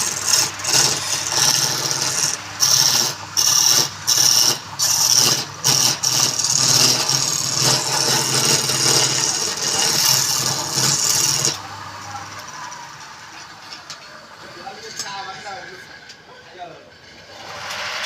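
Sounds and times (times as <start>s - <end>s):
tool scraping spinning wood: 0.0s - 11.7s, 14.4s - 18.0s
lathe motor hum: 0.0s - 18.0s.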